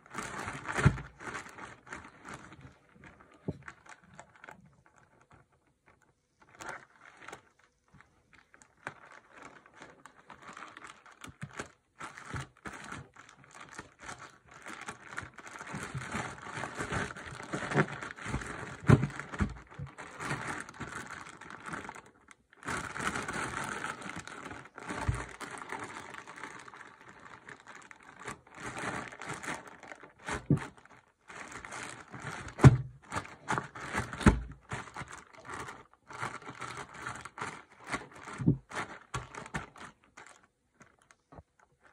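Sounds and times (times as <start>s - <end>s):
plastic bags crinkling: 0.0s - 5.5s, 6.4s - 41.9s.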